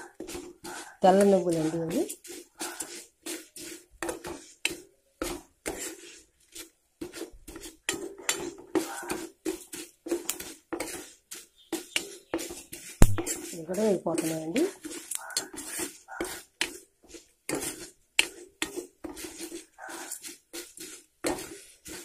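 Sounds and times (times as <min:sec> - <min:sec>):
spoon scraping metal pan: 0:00.0 - 0:22.0.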